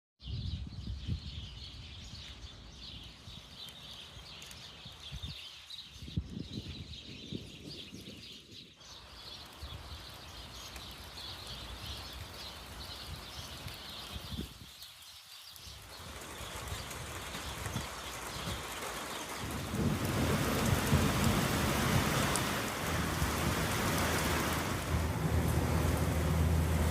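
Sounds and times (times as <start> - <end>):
low rumbling wind gusts: 0.2 - 14.7, 15.9 - 26.9.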